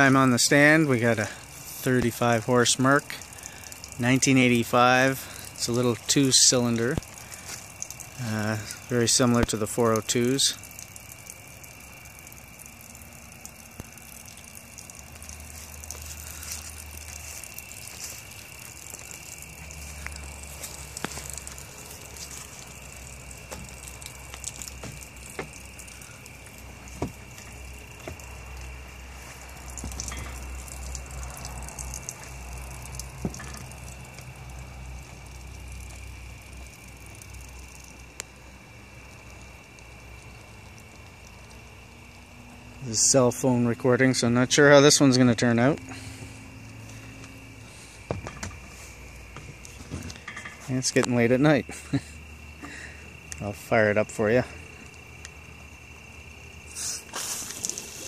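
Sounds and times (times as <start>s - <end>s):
steady high tone and hiss: 0.0s - 58.0s.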